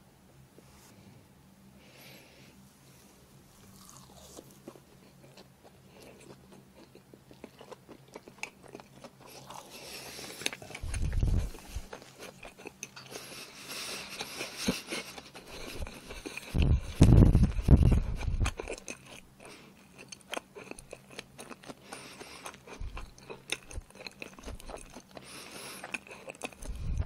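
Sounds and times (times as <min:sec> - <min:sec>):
person chewing food: 0:03.5 - 0:27.0.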